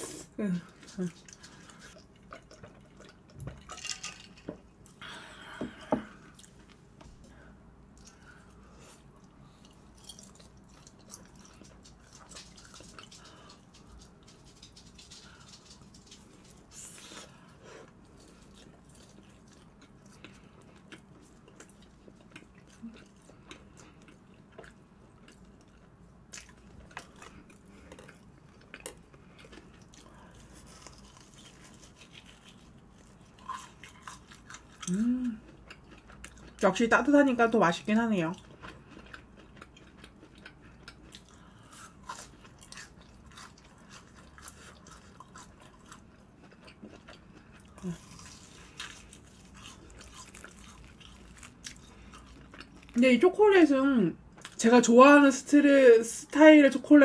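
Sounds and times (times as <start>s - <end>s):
quiet chewing: 0.0s - 3.7s, 4.6s - 37.4s, 38.2s - 53.0s, 54.2s - 54.6s.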